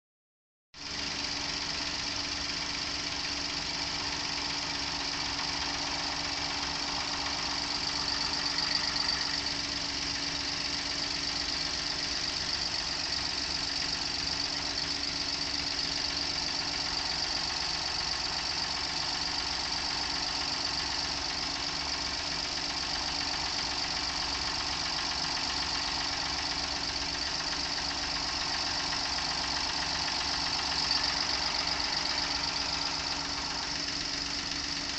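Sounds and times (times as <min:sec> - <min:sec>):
abnormal engine noise: 0:00.8 - 0:34.9
car engine idling: 0:00.9 - 0:34.9.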